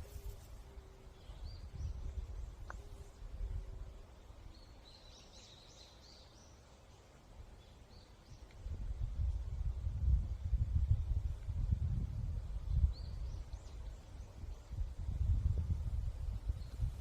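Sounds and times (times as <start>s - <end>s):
songbirds chirping: 0.0s - 17.0s
wind in a forest: 0.0s - 17.0s.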